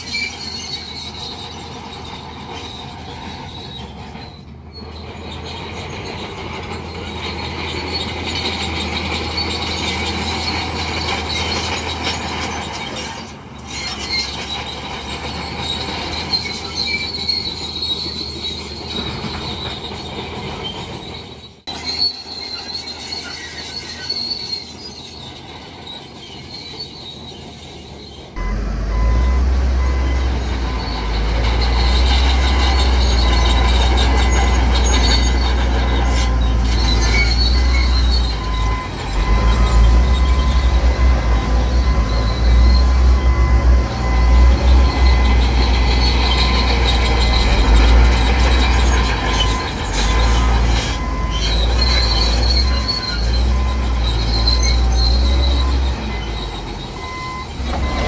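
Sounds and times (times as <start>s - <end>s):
bulldozer diesel engine rumbling: 0.0s - 58.0s
steel tracks squealing: 0.0s - 58.0s.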